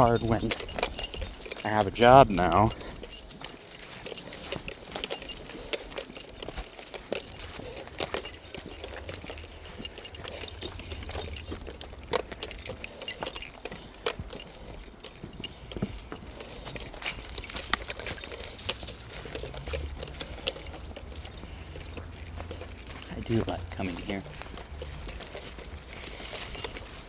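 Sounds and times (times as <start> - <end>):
light clicks and jingling rattles: 0.0 - 27.0.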